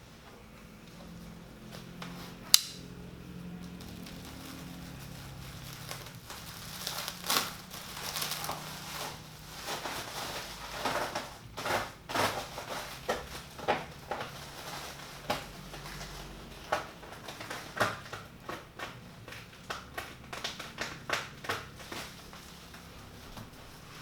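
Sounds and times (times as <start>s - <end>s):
cardboard packaging crinkling: 3.2s - 24.0s.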